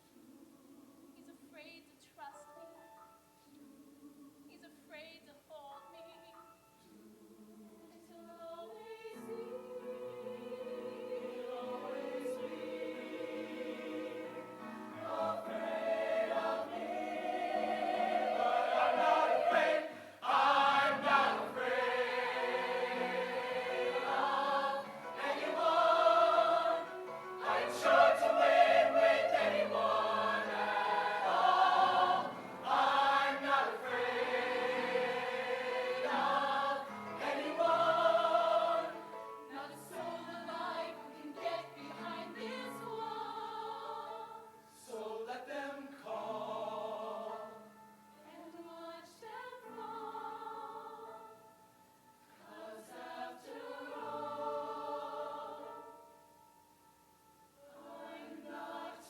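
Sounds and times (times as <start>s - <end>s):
choir singing in harmony: 0.0s - 1.3s, 6.9s - 56.5s, 57.5s - 59.0s.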